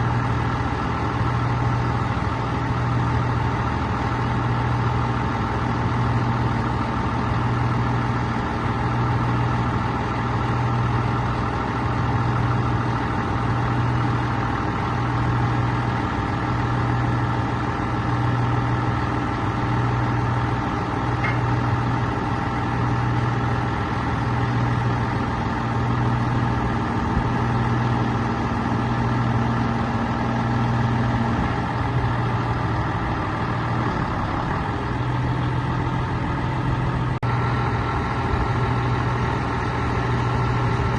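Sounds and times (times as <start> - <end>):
diesel truck idling: 0.0 - 40.9.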